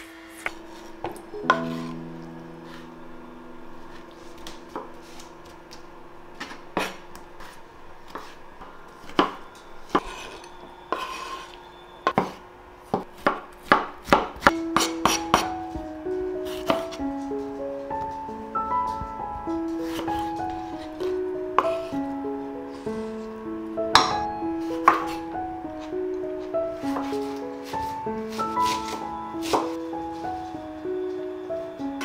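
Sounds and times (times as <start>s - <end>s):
soft background music: 0.0s - 11.5s, 14.5s - 32.0s.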